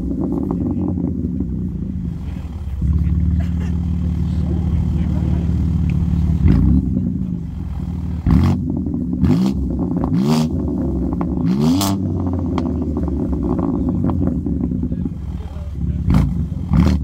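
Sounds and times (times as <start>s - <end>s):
car engine idling: 0.0s - 17.0s
car engine revving: 0.0s - 17.0s
exhaust cracks: 0.0s - 17.0s.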